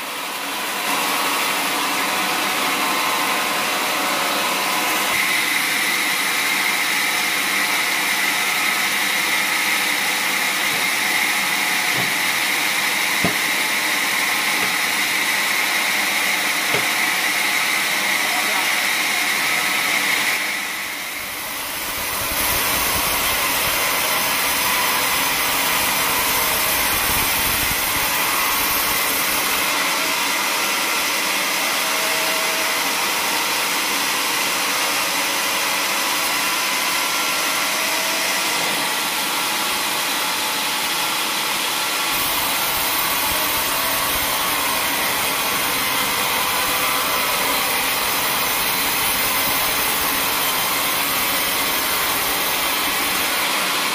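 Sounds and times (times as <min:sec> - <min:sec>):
band saw cutting log: 0:00.0 - 0:53.9.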